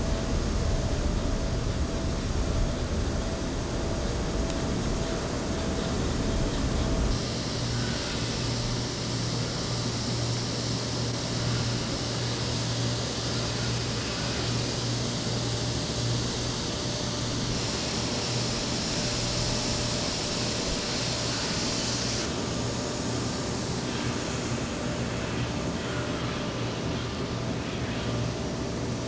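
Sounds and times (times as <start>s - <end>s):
broad hiss: 0.0s - 26.3s
mechanical hum: 0.0s - 29.0s.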